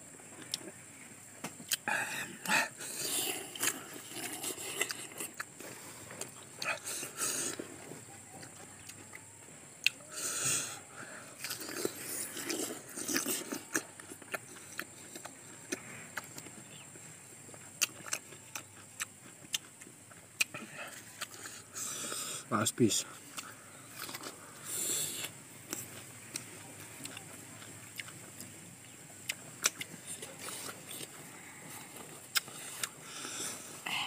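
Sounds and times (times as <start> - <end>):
people chewing fruit: 0.0 - 34.0.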